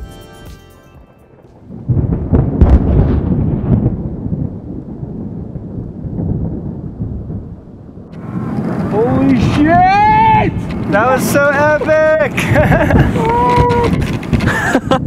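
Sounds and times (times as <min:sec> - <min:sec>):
crackle: 0:01.1 - 0:15.0
volcano rumbling boom: 0:01.4 - 0:15.0.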